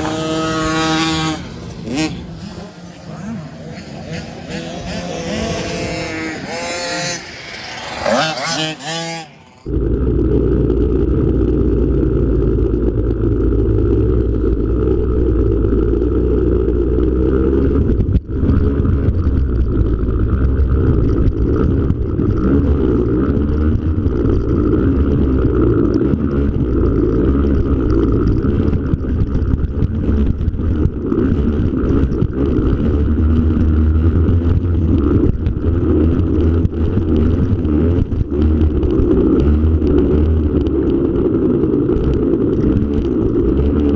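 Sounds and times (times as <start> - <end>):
two-stroke motorbike engine: 0.0 - 43.9.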